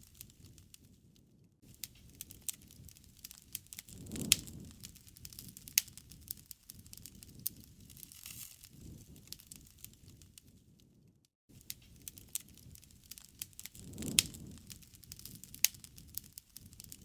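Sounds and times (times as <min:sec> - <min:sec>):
flame flutter: 0:00.0 - 0:17.0
wood fire crackling: 0:00.0 - 0:17.0.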